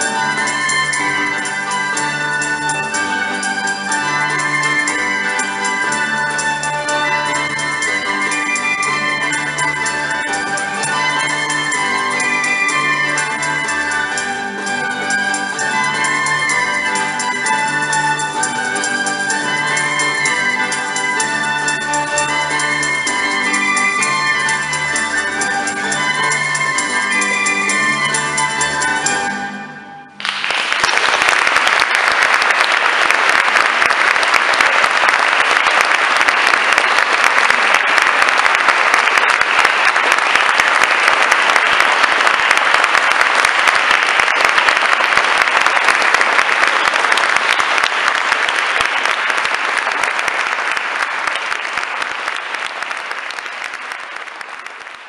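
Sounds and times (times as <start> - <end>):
audience applauding: 0.0 - 29.2, 30.2 - 55.0.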